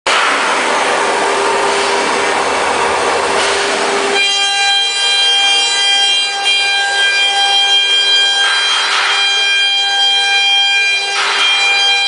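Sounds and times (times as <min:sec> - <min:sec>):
high multi-pitched whine: 0:00.1 - 0:12.0.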